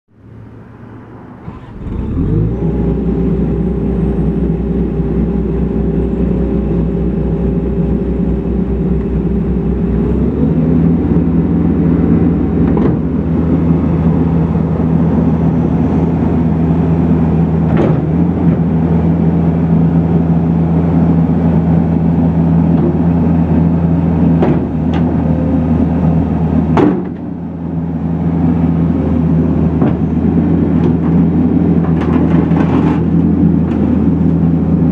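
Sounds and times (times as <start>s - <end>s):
diesel engine starting and running: 0.1s - 34.9s.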